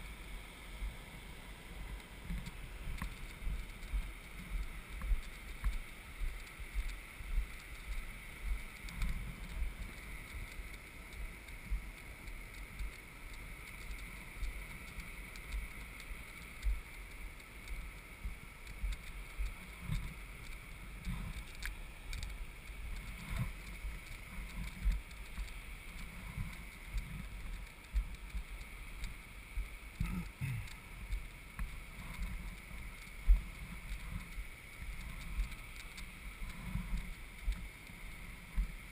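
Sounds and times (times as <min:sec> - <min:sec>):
cart rolling over sand: 0:00.0 - 0:38.9.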